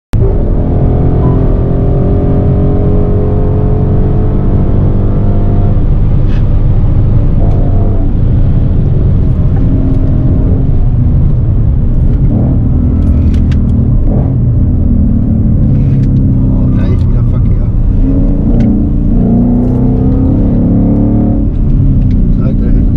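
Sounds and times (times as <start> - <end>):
car engine accelerating hard: 0.2 - 22.9.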